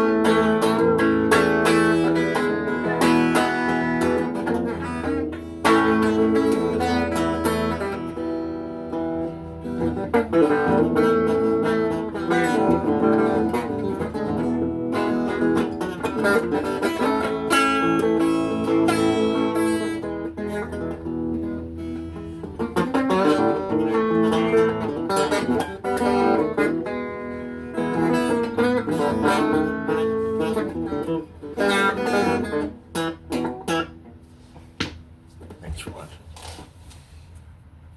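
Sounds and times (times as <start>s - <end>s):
acoustic guitar: 0.0s - 36.0s.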